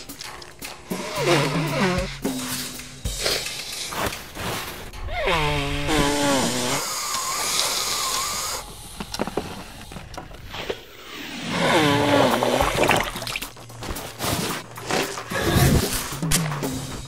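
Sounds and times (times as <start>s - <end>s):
nose blowing into tissue: 0.3s - 4.1s, 5.1s - 16.7s.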